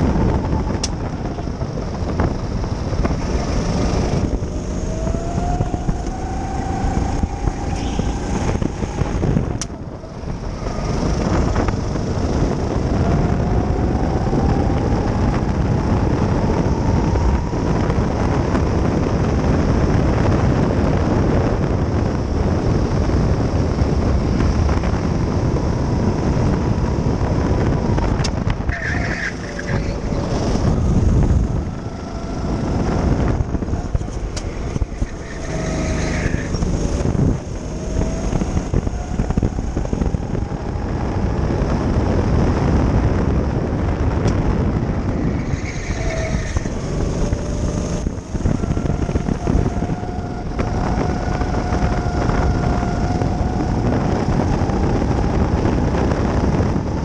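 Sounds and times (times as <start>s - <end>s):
go-kart engine: 0.0s - 57.0s
wind on microphone: 0.0s - 57.0s.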